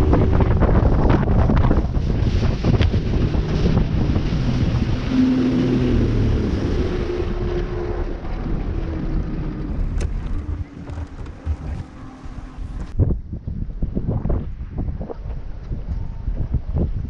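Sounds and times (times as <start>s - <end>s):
boat motor rumbling: 0.0s - 17.0s
wind buffeting microphone: 0.0s - 17.0s.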